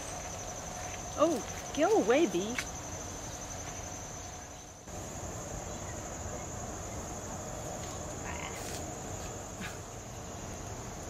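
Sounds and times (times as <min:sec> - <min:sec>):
insect trill: 0:00.0 - 0:11.0.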